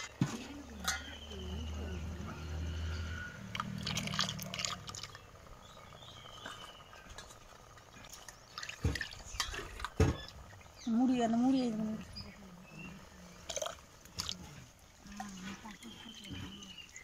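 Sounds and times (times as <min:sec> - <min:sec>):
lentils boiling in pot: 0:00.0 - 0:17.0.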